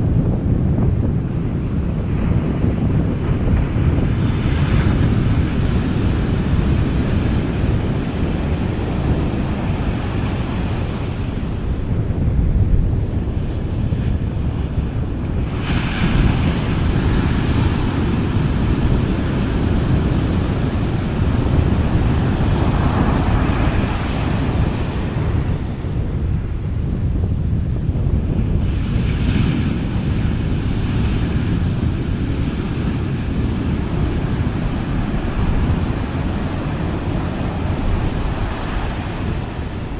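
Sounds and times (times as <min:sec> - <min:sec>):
waves breaking on a beach: 0:00.0 - 0:39.9
wind on microphone: 0:00.0 - 0:39.9.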